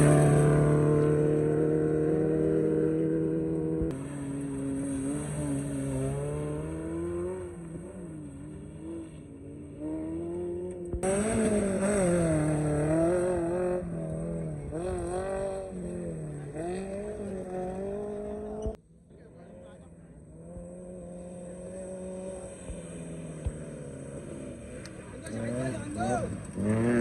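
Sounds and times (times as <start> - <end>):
off-road engines revving: 0.0 - 27.0.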